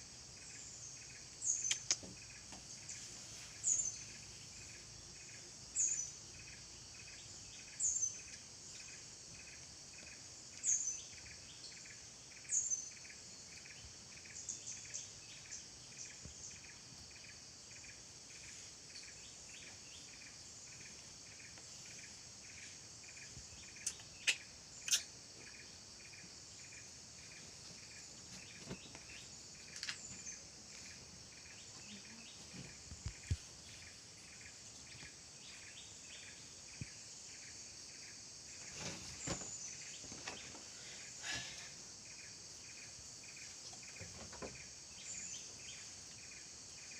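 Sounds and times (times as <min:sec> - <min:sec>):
insect buzz: 0:00.0 - 0:46.9
pulsing insect chirp: 0:00.0 - 0:46.9.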